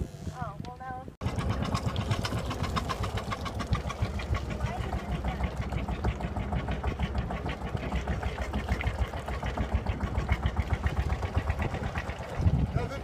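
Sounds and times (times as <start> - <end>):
diesel engine knocking: 1.2 - 12.8.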